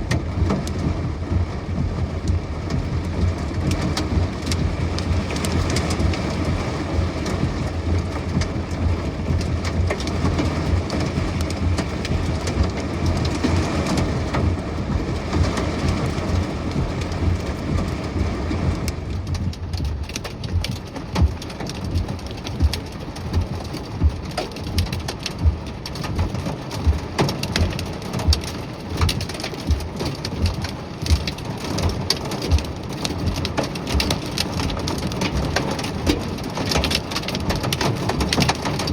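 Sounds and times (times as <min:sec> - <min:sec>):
low rumble: 0:00.0 - 0:36.5
heavy rain: 0:00.0 - 0:38.9.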